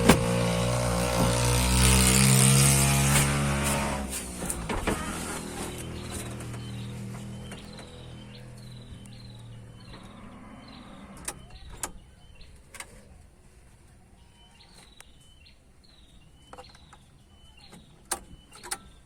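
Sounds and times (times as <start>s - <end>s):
bird chirping: 0.0s - 13.2s, 14.0s - 19.0s.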